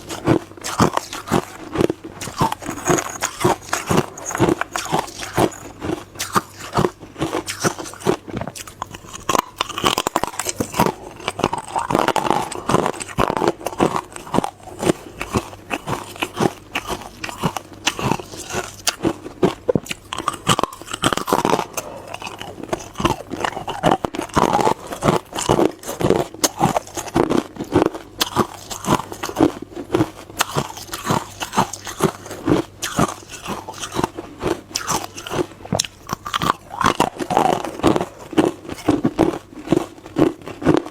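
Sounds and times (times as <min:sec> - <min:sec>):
ice being chewed and crunched: 0:00.0 - 0:40.9.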